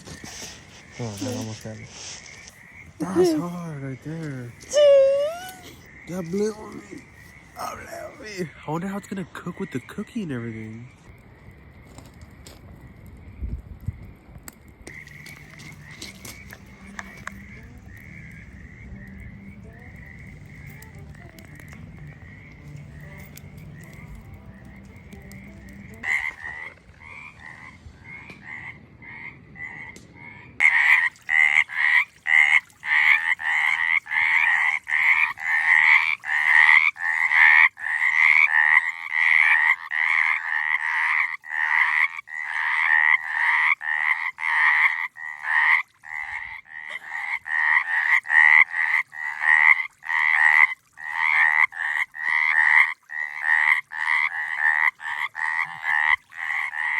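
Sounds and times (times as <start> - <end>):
frogs croaking: 0.0 - 56.9.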